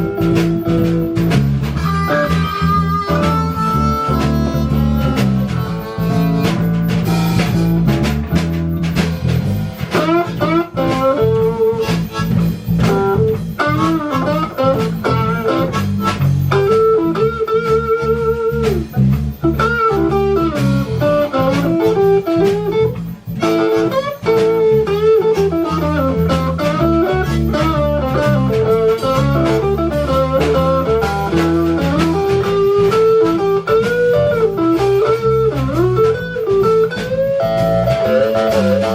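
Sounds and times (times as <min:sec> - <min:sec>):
blues band playing: 0:00.0 - 0:38.9
electric guitar bending lines: 0:00.0 - 0:38.9
harmonica: 0:00.0 - 0:38.9.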